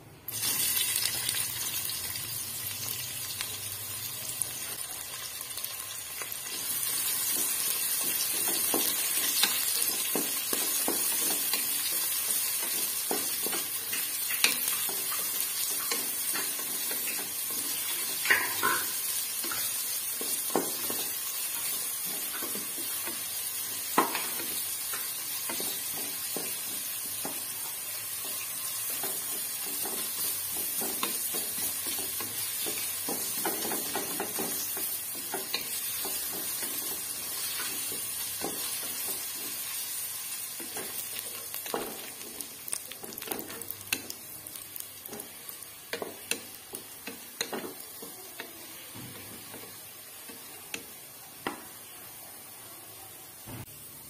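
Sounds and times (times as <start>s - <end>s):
onions sizzling in hot oil: 0.3s - 54.0s.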